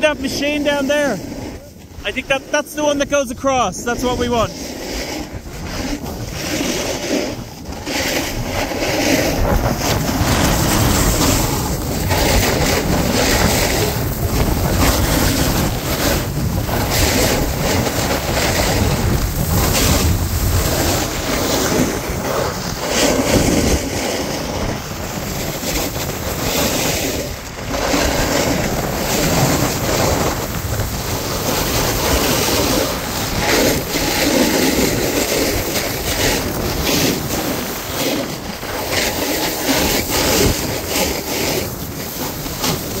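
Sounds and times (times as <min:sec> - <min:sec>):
snowboard sliding on packed snow: 0:00.0 - 0:43.0
wind rushing over microphone: 0:00.0 - 0:43.0.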